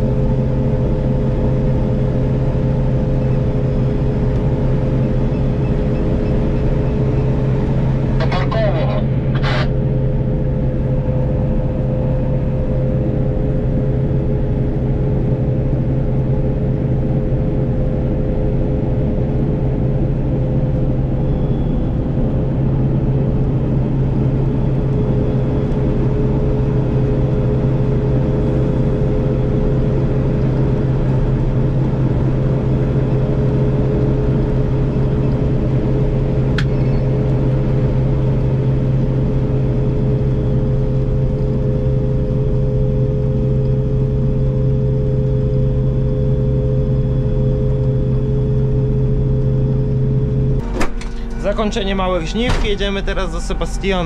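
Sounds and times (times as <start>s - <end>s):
combine harvester engine hum: 0.0s - 54.0s
steady whining tones: 0.1s - 15.1s, 18.2s - 54.0s.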